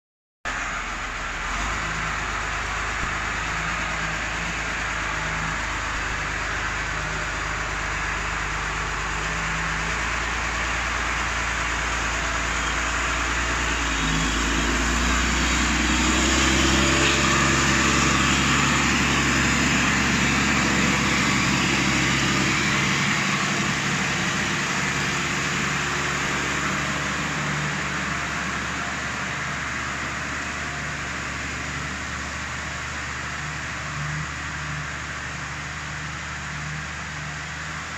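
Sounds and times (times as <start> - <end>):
tractor diesel engine under load: 0.4 - 37.9.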